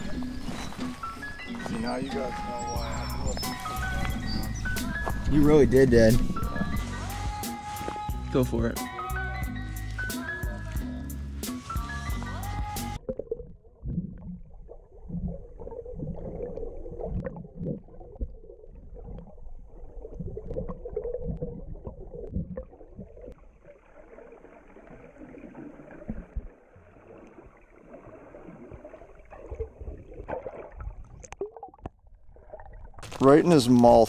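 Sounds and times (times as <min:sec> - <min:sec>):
underwater water gurgling: 0:00.0 - 0:07.4, 0:12.6 - 0:33.1.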